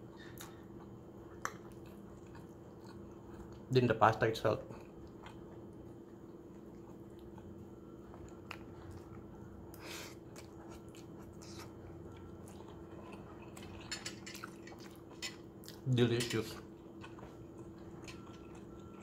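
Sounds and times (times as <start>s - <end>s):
person chewing: 0.0s - 3.7s, 4.7s - 19.0s.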